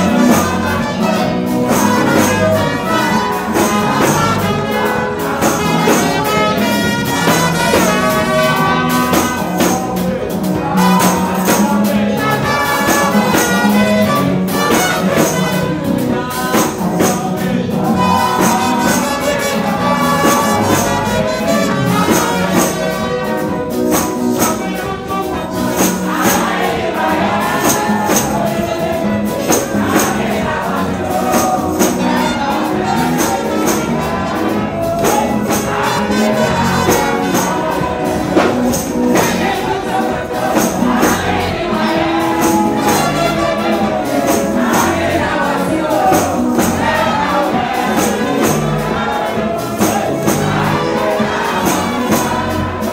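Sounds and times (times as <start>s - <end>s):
gospel praise music: 0.0s - 52.9s
tambourine jingling: 0.0s - 52.9s
voices singing: 0.0s - 52.9s.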